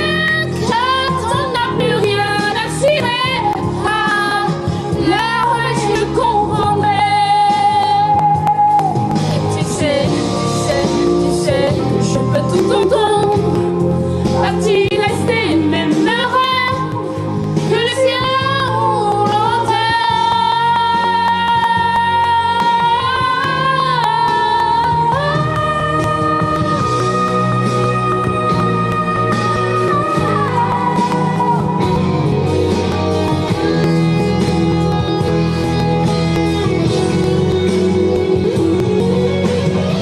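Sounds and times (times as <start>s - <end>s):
instrumental accompaniment: 0.0s - 40.0s.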